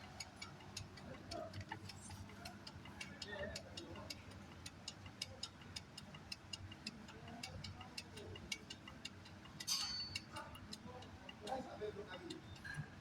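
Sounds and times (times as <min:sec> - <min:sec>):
rapid mechanical ticking: 0:00.0 - 0:13.0.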